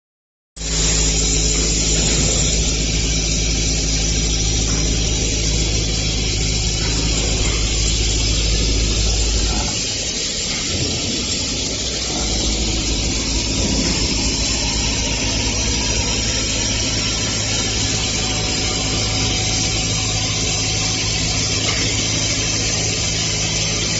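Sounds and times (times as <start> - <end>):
machine hum: 0.6 - 23.9.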